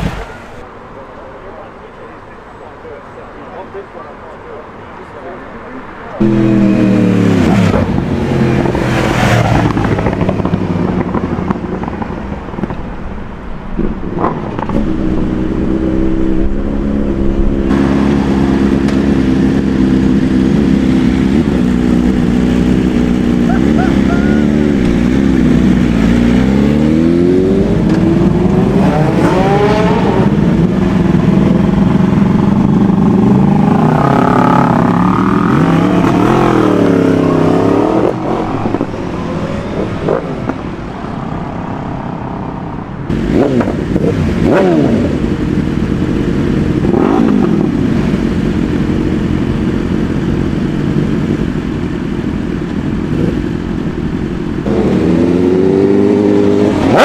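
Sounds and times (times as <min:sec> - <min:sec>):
motorcycles revving past: 0:06.2 - 0:12.2, 0:14.1 - 0:51.6, 0:54.6 - 0:57.0.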